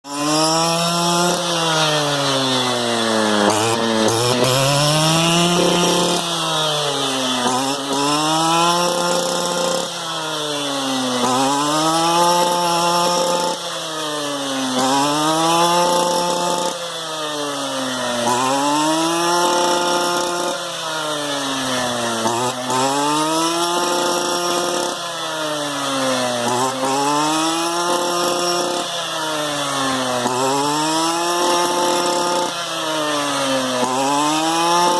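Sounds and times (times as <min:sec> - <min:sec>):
brushcutter engine revving: 0:00.0 - 0:34.9.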